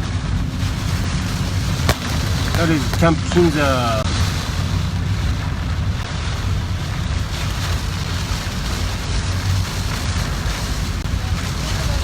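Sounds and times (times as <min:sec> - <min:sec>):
car road rumble: 0:00.0 - 0:12.0
rain and spray hissing: 0:00.0 - 0:12.0.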